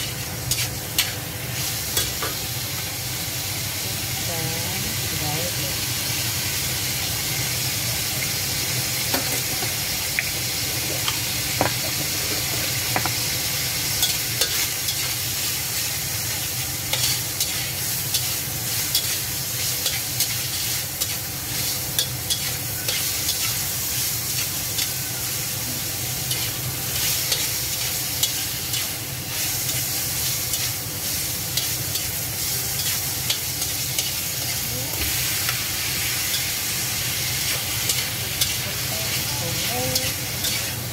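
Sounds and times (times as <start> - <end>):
shrimp sizzling in oil: 0.0 - 40.9.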